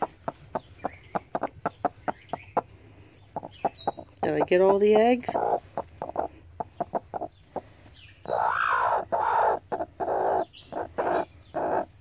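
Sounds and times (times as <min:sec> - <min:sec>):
hen clucking and calling: 0:00.0 - 0:12.0.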